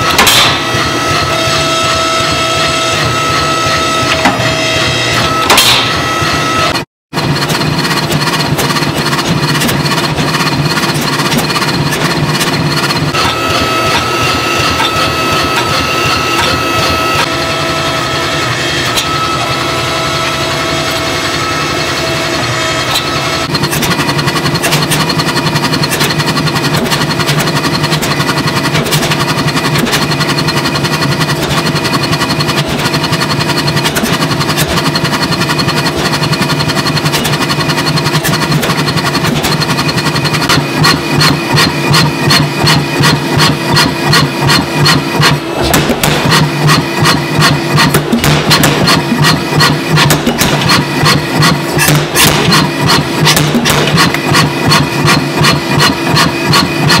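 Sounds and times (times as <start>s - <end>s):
motor and pump hum: 0.0s - 57.0s
power hammer pounding steel: 0.0s - 57.0s.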